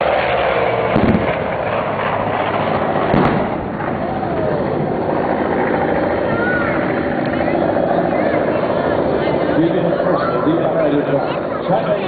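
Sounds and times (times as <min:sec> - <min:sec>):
aircraft roar: 0:00.0 - 0:12.0.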